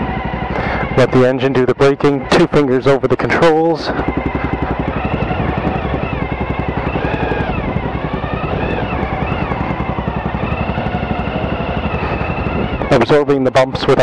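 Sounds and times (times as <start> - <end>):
motorcycle engine engine braking: 0.0 - 14.0.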